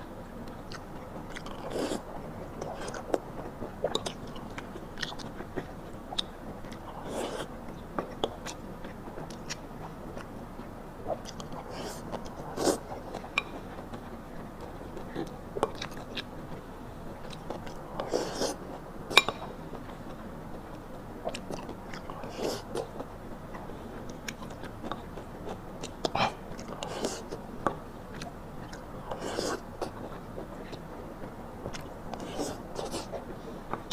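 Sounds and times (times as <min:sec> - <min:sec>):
person chewing and lip smacking: 0:00.3 - 0:10.3, 0:11.0 - 0:33.9.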